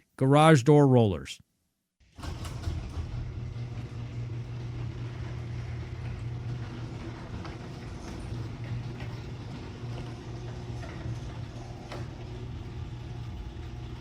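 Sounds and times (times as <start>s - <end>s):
garage door opener humming: 2.0s - 14.0s.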